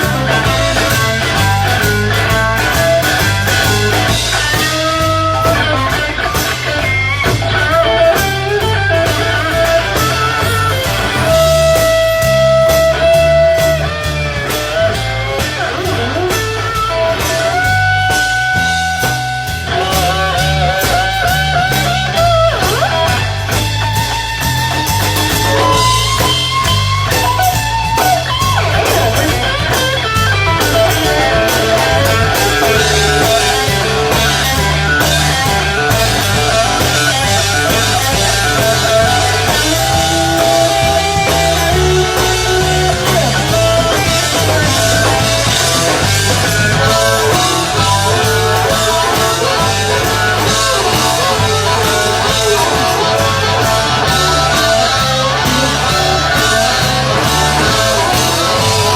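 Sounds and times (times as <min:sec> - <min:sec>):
bass guitar: 0:00.0 - 0:58.9
drum kit steady beat: 0:00.0 - 0:58.9
electric guitar lines: 0:00.0 - 0:58.9.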